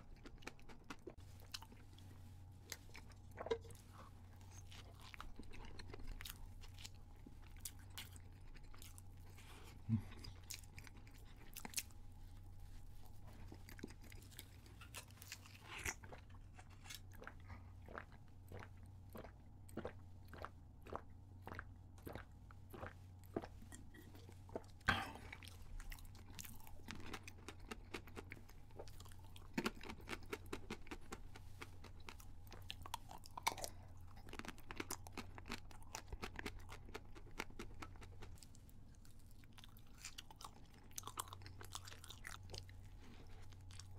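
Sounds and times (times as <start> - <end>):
close chewing with mouth clicks: 0.0 - 43.9.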